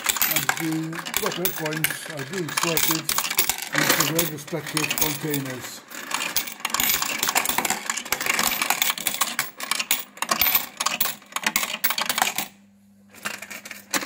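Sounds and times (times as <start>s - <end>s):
coin counter hum: 0.0s - 14.0s
coins clattering through counter: 0.0s - 14.0s.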